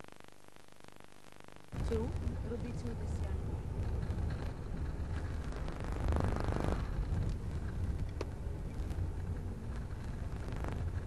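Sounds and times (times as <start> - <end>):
rapid rattle: 1.8 - 11.0
taxi cab driving rumble: 1.8 - 11.0.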